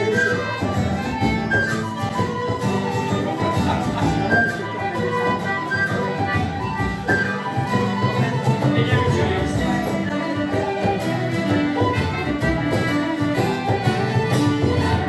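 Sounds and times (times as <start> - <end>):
fiddle: 0.0 - 15.0
strummed guitar: 0.0 - 15.0
tin whistles playing melody: 0.0 - 15.0.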